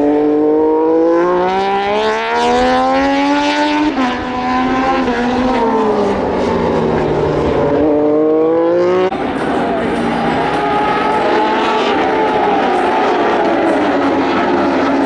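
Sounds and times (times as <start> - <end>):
race motorcycles passing at high revs: 0.0 - 15.0.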